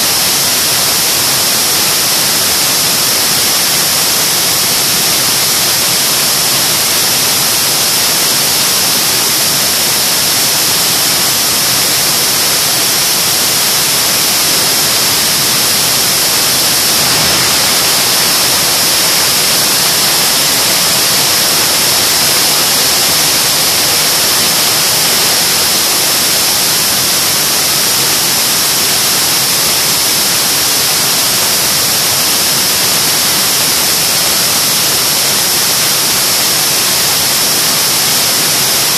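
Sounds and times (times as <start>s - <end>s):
jet engine roar: 0.0s - 32.1s.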